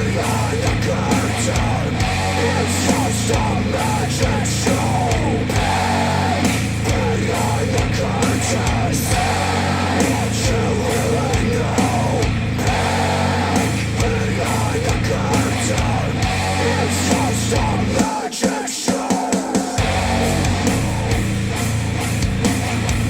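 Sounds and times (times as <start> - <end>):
heavy rock music through speakers: 0.0 - 23.0.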